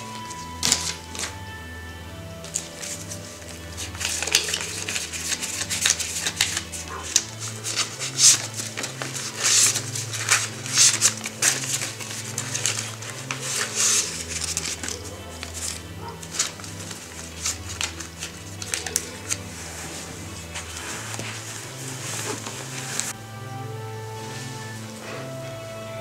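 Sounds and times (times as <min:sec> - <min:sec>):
banknotes rustling and flicking: 0:00.0 - 0:01.6, 0:02.3 - 0:23.2
background music with bass: 0:00.0 - 0:26.0.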